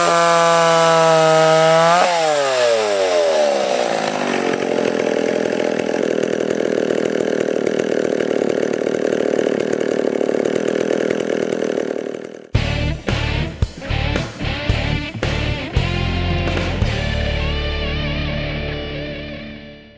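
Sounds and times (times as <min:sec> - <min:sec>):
chainsaw engine idling: 0:00.0 - 0:17.8.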